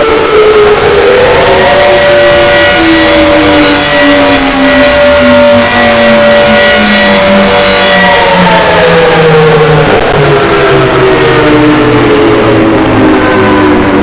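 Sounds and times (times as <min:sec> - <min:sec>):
electric fire siren two tones: 0:00.0 - 0:14.0.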